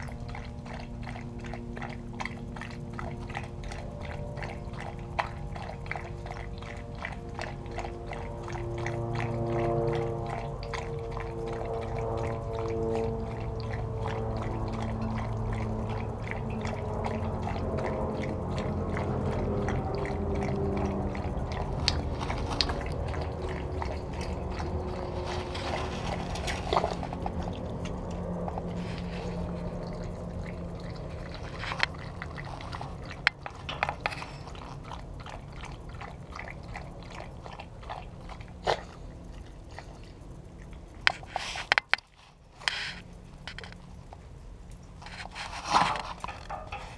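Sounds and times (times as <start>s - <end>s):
dog lapping water from bowl: 0.0s - 46.9s
low hum: 0.0s - 46.9s.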